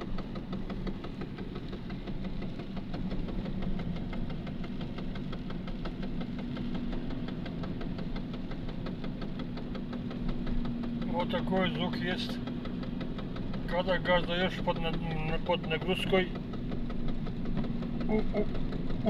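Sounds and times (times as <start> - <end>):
engine and road hum: 0.0 - 19.0.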